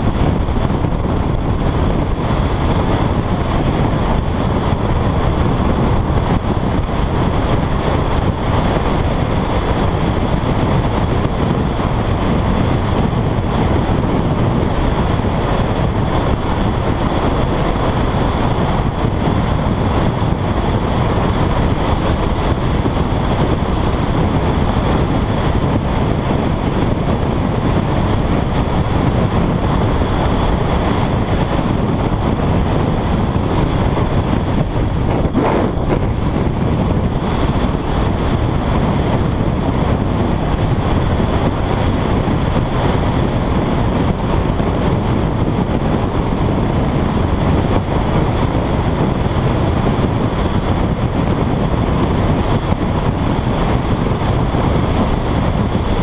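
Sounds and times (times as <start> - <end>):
motorcycle engine and tyre noise: 0.0 - 56.0
wind rushing over microphone: 0.0 - 56.0.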